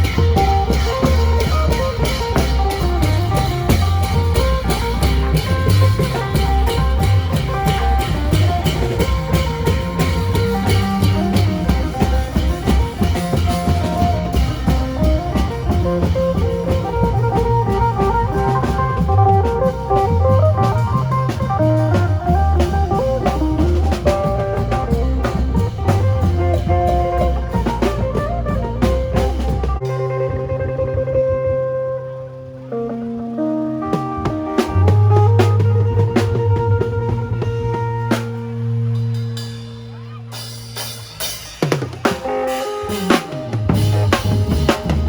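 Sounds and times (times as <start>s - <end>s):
drum kit fast beat: 0.0s - 31.2s, 33.7s - 45.0s.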